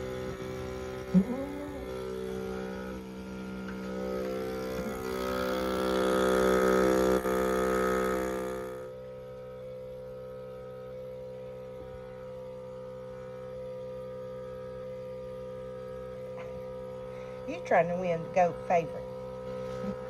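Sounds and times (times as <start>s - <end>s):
vacuum pump humming: 0.0s - 20.0s.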